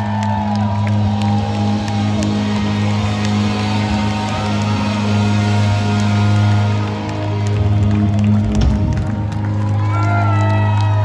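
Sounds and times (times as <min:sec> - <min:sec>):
rock band holding low chord: 0:00.0 - 0:09.9.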